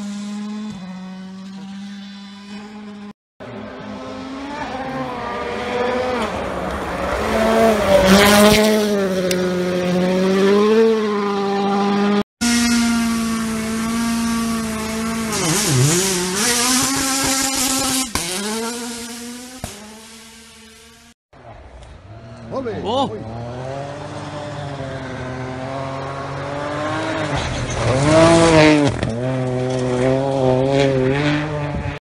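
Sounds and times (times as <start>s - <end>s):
rally car engines at full throttle: 0.0s - 32.0s.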